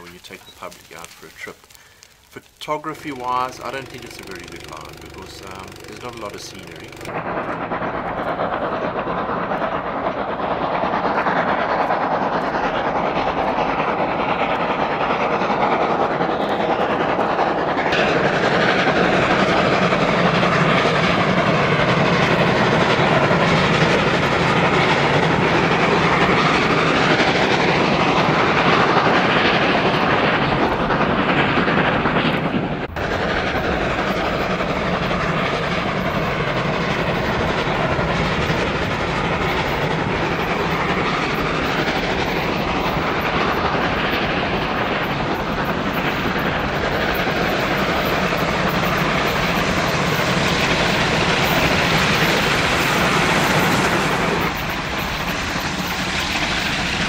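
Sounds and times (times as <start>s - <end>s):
steam locomotive exhaust beat: 0.0s - 57.0s
wheels clattering on rail joints: 0.0s - 57.0s.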